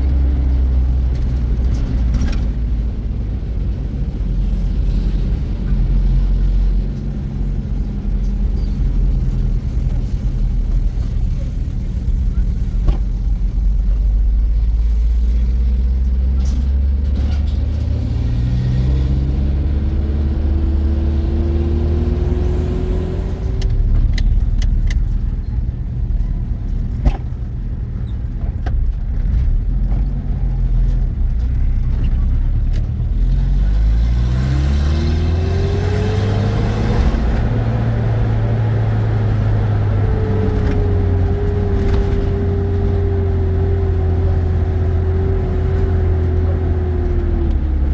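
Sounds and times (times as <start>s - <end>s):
car engine accelerating: 0.0s - 27.2s, 28.2s - 47.9s.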